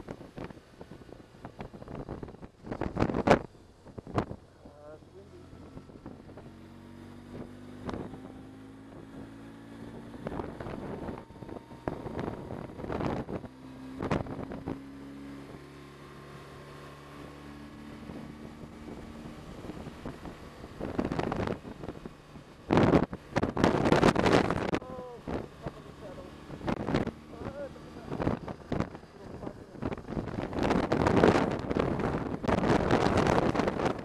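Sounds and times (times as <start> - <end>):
wind buffeting microphone: 0.0 - 4.7, 5.3 - 34.0
motorcycle engine running: 0.0 - 34.0.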